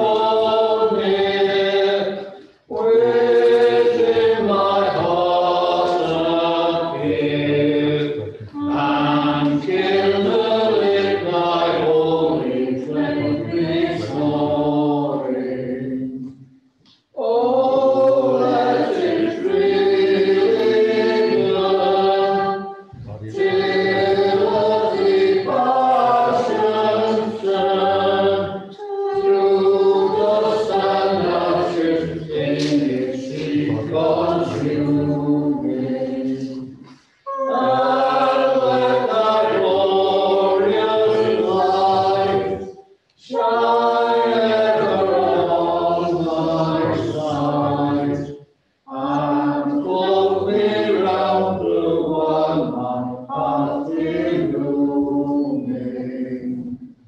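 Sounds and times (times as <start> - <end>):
choir singing unaccompanied: 0.0 - 16.4, 17.1 - 57.0.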